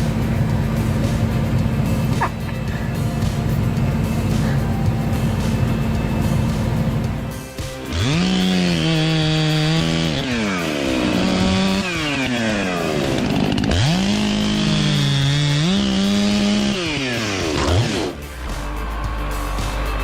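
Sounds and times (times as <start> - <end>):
chainsaw revving and cutting: 0.0 - 18.9.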